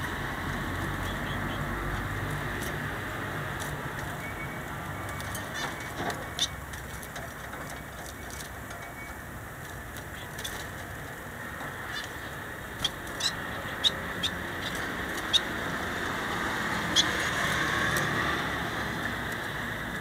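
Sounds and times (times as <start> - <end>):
finches chirping and clicking: 0.8 - 2.8, 3.5 - 9.2, 10.0 - 18.2
finches hopping: 0.8 - 19.8.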